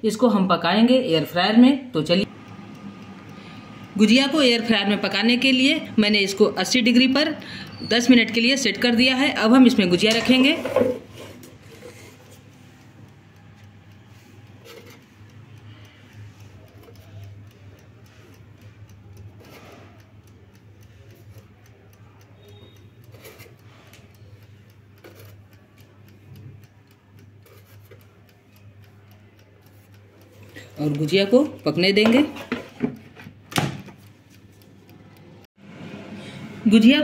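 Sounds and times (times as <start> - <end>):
mechanical timer ticking: 0.0 - 35.5.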